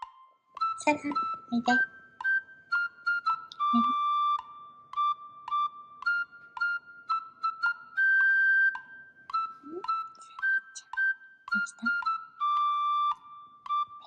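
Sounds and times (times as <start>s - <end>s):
light flute-like melody: 0.0s - 14.0s.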